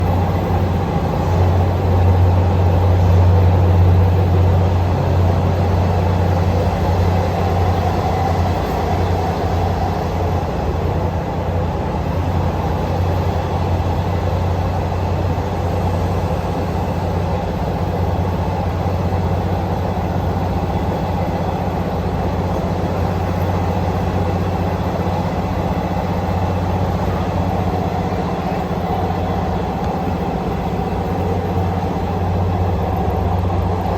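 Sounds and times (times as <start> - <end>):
passenger train rumbling: 0.0 - 33.9.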